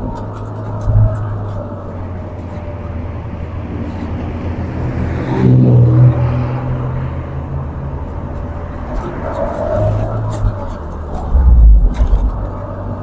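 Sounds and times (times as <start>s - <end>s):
car engine drone: 0.0s - 13.0s
passing car engine: 0.0s - 13.0s
road noise: 0.0s - 13.0s.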